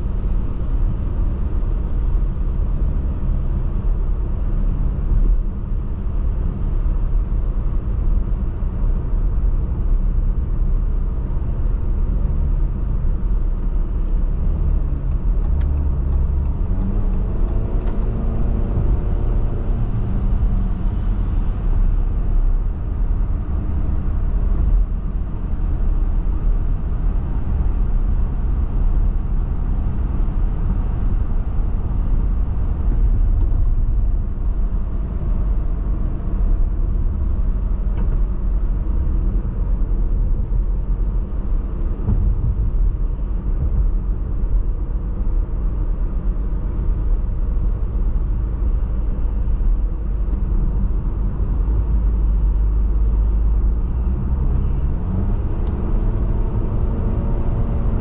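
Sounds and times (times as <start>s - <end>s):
tyre and engine rumble: 0.0s - 58.0s.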